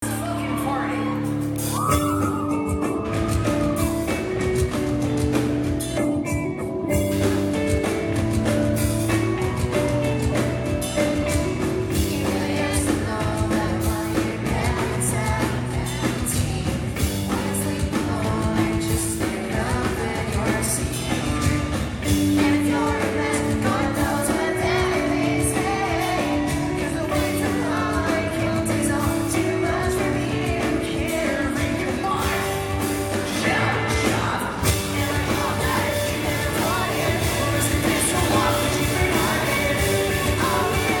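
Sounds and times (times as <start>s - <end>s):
live pop-punk band: 0.0s - 41.0s
person singing: 0.0s - 41.0s.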